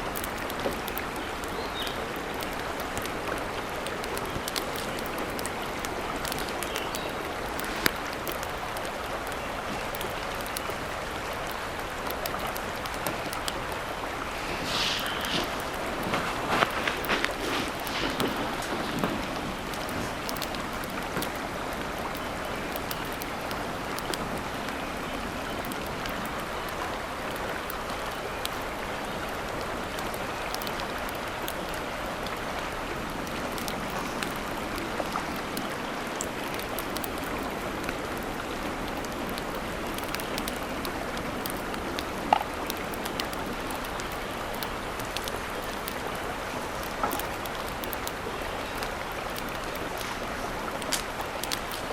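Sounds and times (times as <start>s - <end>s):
faint ticks: 0.0s - 51.9s
water rushing: 0.0s - 51.9s.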